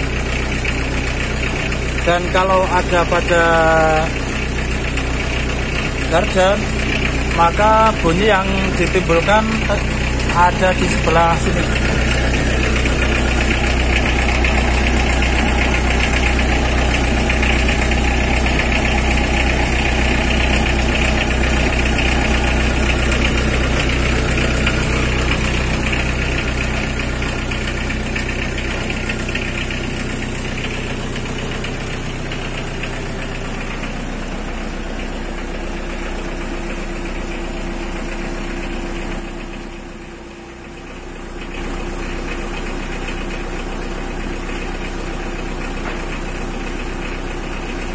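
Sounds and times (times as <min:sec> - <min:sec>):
engine and drivetrain rumbling: 0:00.0 - 0:47.9.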